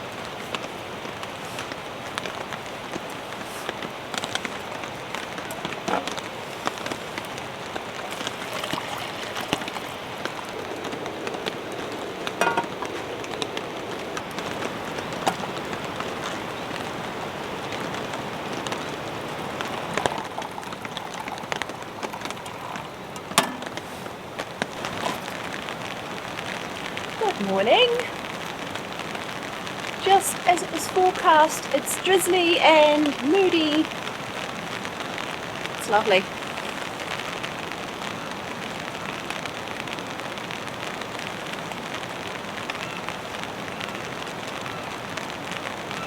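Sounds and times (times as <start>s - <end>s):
steady drizzle: 0.0s - 46.0s.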